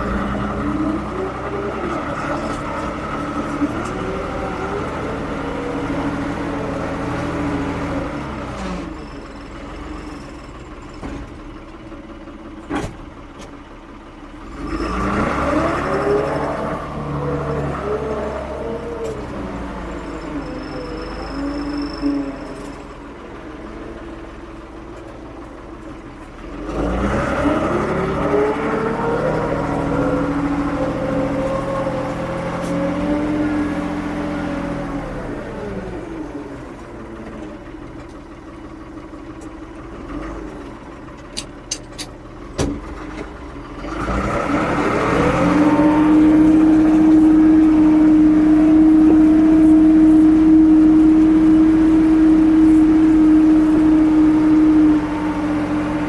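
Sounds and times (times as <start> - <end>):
backhoe diesel engine idling: 0.0 - 56.0.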